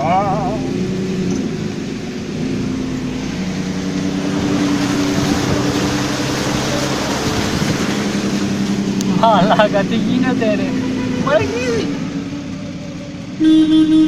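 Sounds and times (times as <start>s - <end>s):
tyres splashing through water: 0.0s - 13.4s
car engine hum: 0.0s - 14.0s.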